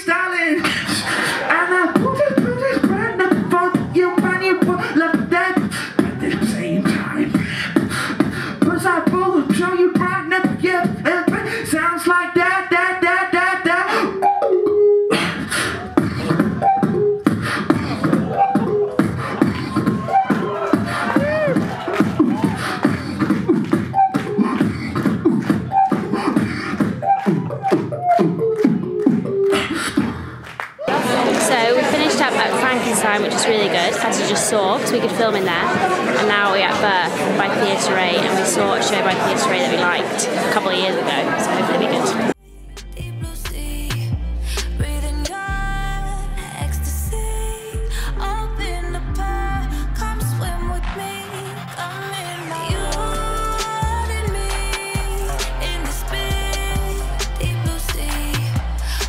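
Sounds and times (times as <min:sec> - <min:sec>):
beatboxing through microphone: 0:00.0 - 0:59.0.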